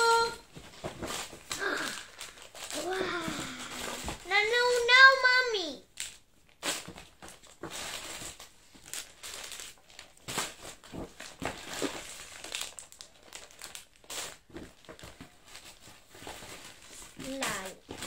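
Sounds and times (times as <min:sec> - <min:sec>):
gift packaging crinkling: 0:00.0 - 0:18.0.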